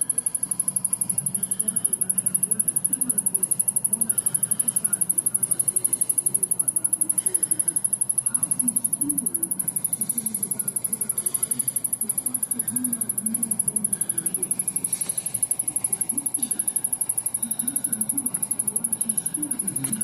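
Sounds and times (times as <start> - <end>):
power supply ticking rapidly: 0.0 - 20.0.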